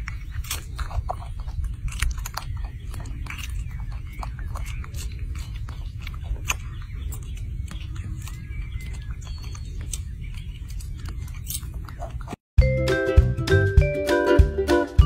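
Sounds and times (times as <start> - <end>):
monkey chewing wet smacks: 0.0 - 12.4.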